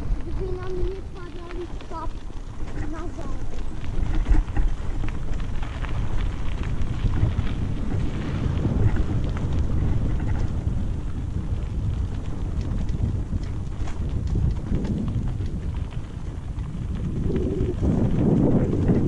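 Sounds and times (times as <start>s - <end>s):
knocks and rattles over bumps: 0.0s - 17.2s
bicycle tyre noise: 0.0s - 19.0s
wind rumbling on microphone: 0.0s - 19.0s.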